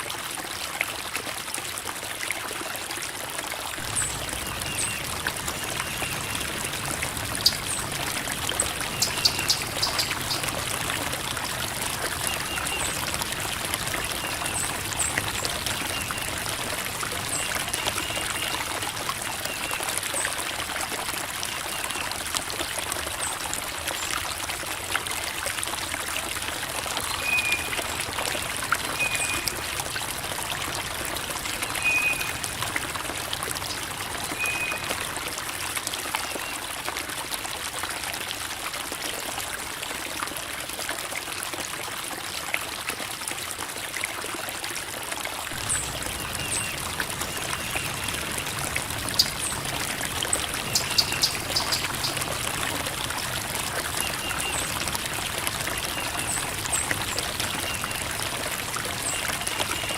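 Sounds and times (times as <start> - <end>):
creek water babbling over rocks: 0.0 - 59.9.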